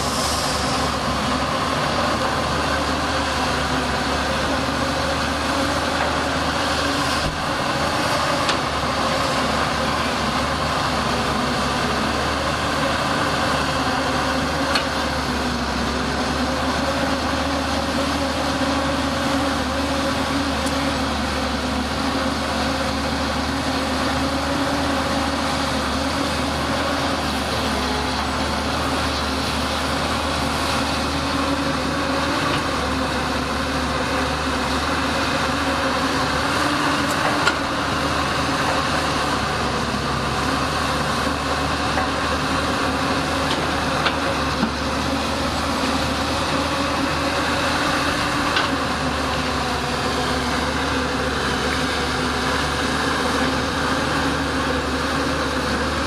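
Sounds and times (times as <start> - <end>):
excavator diesel engine under load: 0.0 - 56.0.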